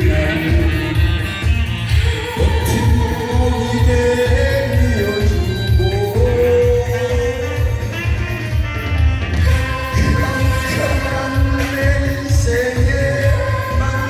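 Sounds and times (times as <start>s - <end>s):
person singing long notes: 0.0s - 8.5s, 9.4s - 14.0s
pulsing bass beat: 0.0s - 14.0s.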